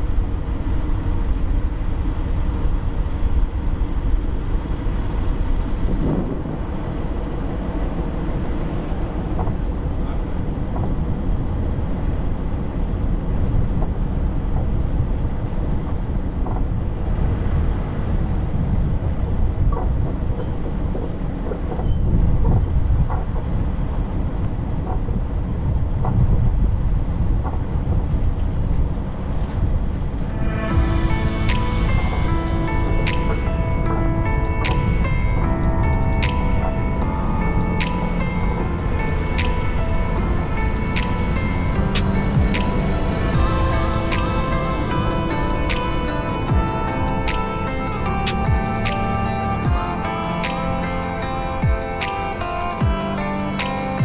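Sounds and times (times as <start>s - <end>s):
vehicle engine and tyre rumble: 0.0s - 54.0s.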